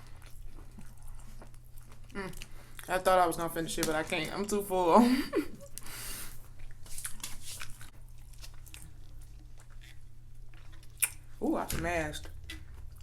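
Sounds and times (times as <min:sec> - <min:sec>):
soft chewing: 0:00.0 - 0:04.7, 0:05.6 - 0:13.0.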